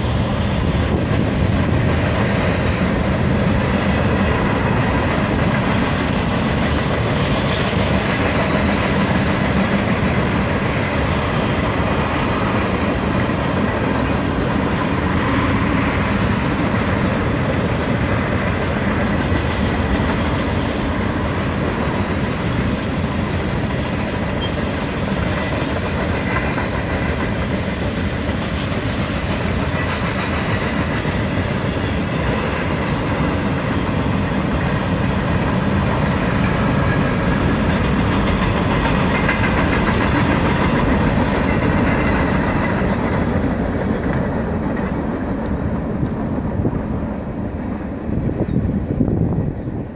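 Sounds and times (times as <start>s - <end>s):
train wheels on rails: 0.0s - 49.9s.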